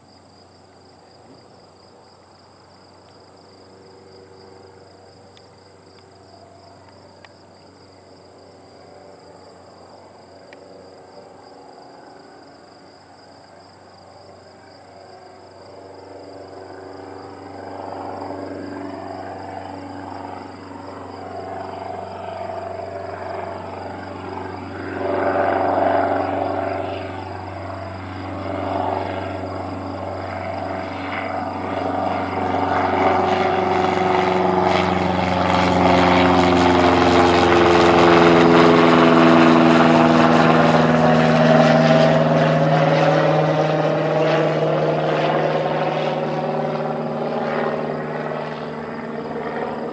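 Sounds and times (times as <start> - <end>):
propeller plane flying over: 0.0 - 49.9.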